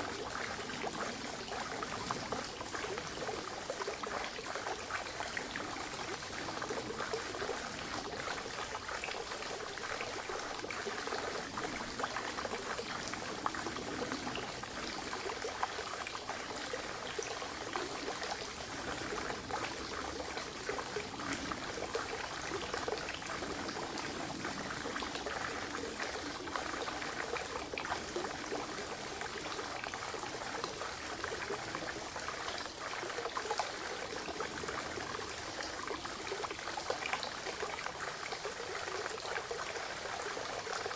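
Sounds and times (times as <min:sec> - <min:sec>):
water trickling into a pond: 0:00.0 - 0:40.9.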